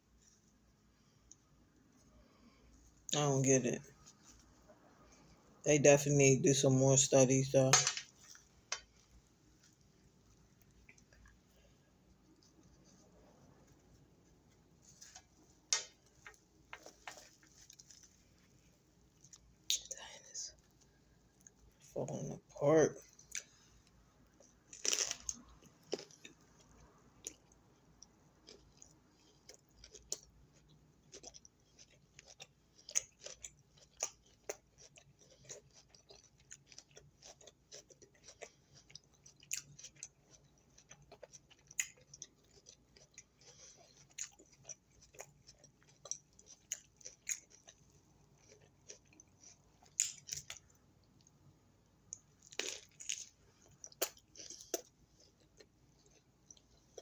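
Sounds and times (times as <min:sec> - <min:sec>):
person chewing food: 0:07.8 - 0:21.9, 0:23.0 - 0:57.0.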